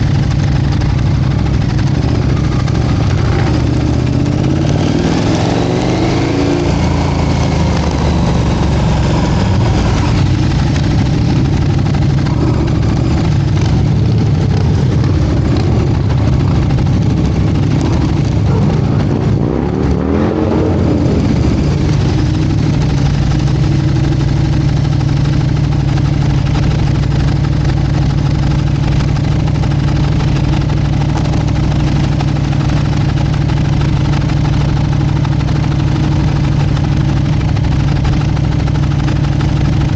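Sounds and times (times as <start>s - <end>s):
motorcycle engines idling: 0.0s - 39.9s.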